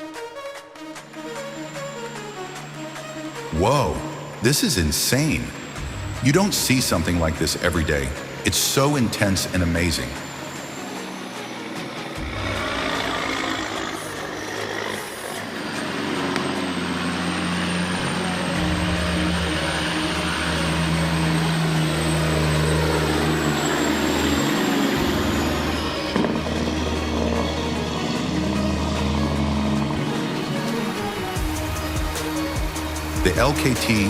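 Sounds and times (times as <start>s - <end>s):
heavy diesel engine under load: 2.0s - 34.0s.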